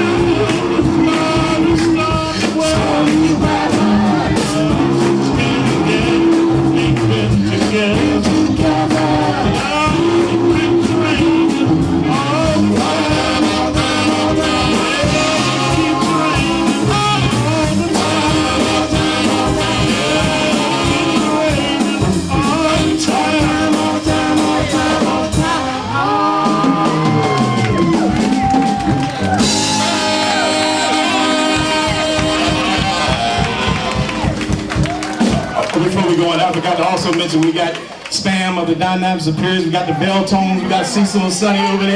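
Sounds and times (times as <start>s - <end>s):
vocal group singing: 0.0s - 34.9s
band with guitar: 0.0s - 41.9s.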